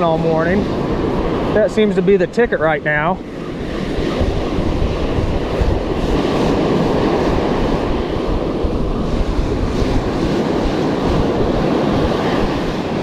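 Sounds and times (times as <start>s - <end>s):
surf washing on beach: 0.0s - 13.0s
wind rumbling on microphone: 0.0s - 13.0s.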